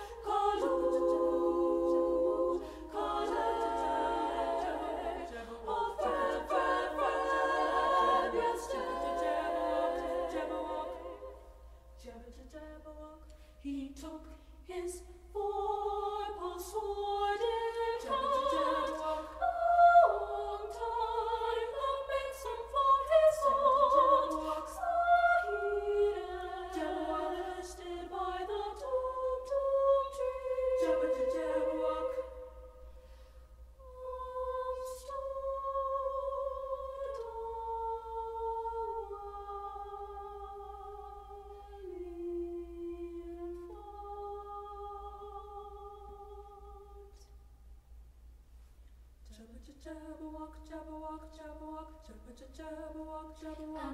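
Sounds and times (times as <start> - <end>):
women's choir singing a cappella: 0.0 - 33.2, 33.8 - 47.4, 49.3 - 53.9.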